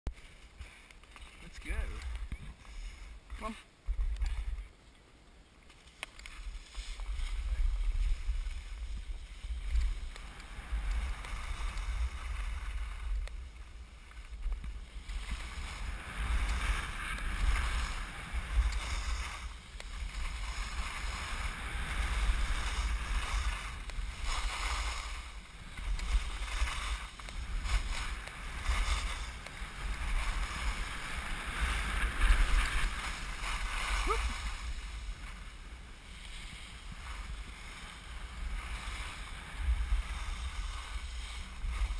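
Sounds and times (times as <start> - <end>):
skis scraping on snow: 0.1 - 5.0, 5.6 - 41.9.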